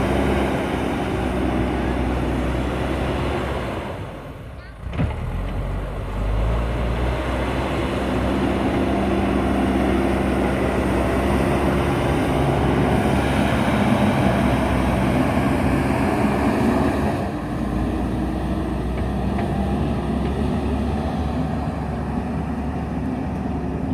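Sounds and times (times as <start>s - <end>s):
diesel engine running under load: 0.0s - 23.9s.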